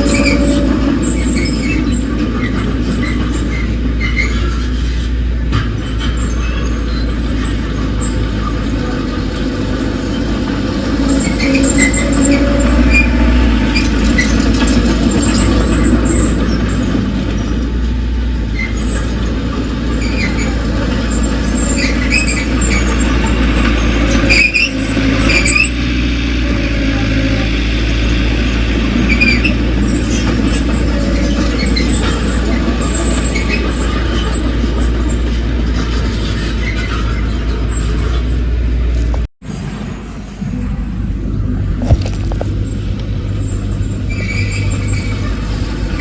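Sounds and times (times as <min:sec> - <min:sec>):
bulldozer diesel engine drone: 0:00.0 - 0:46.0
crawler tracks squeaking: 0:00.0 - 0:46.0.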